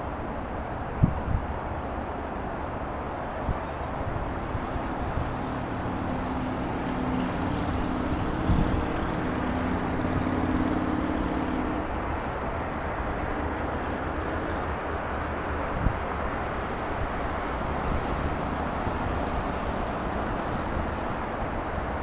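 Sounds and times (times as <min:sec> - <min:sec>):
city background noise: 0:00.0 - 0:22.0
low engine hum: 0:00.0 - 0:22.0.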